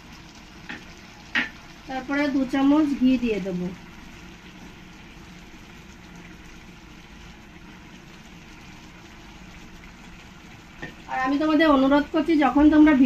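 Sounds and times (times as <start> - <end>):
pot of rice bubbling: 0.0 - 13.0.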